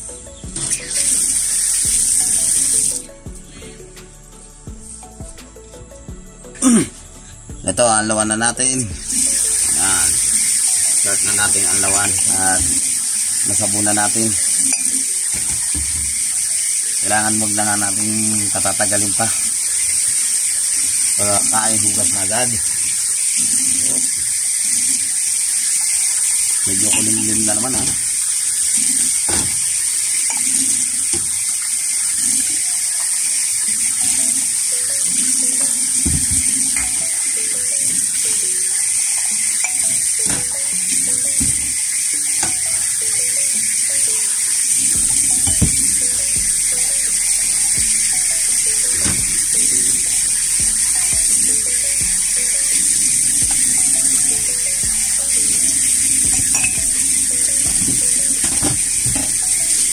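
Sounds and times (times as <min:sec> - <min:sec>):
tap water running into sink: 0:00.5 - 0:03.1, 0:08.9 - 0:59.9.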